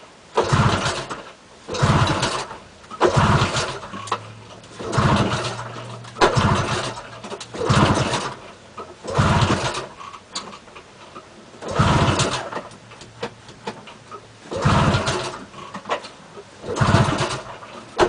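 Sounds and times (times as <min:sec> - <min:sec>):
two-stroke engine cranking: 0:00.4 - 0:10.6, 0:11.6 - 0:13.3, 0:14.5 - 0:18.0.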